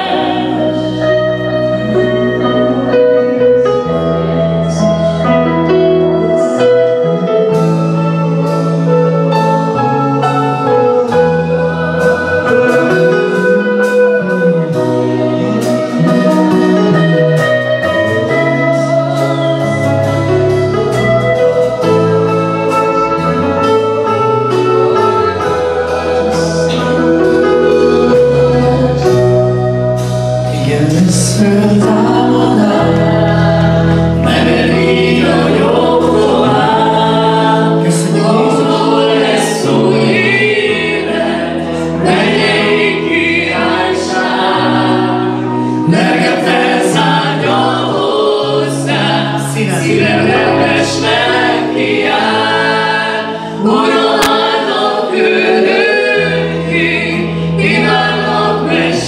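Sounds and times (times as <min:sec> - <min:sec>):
band playing: 0:00.0 - 0:59.0
group singing worship song: 0:00.0 - 0:59.0
sustained bass notes: 0:00.0 - 0:59.0.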